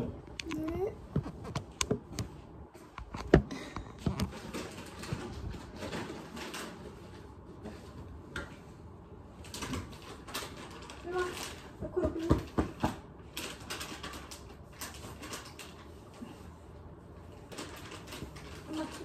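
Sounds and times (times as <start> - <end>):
bedding rustling: 0.9 - 19.0.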